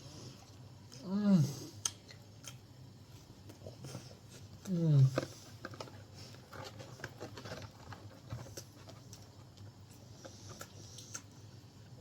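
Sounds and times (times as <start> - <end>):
low steady hum: 0.0 - 12.0
person chewing food: 0.0 - 12.0.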